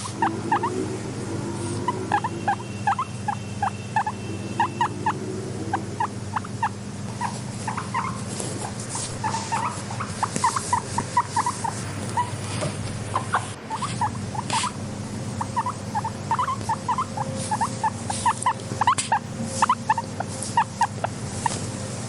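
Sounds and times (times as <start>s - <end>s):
guinea pigs squeaking: 0.0s - 0.9s, 1.6s - 21.8s
steady low hum: 0.0s - 22.0s.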